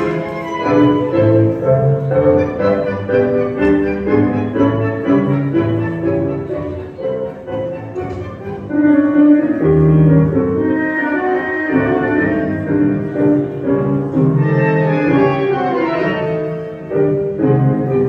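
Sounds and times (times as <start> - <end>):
bowed strings melody: 0.0 - 18.0
piano: 0.0 - 18.0.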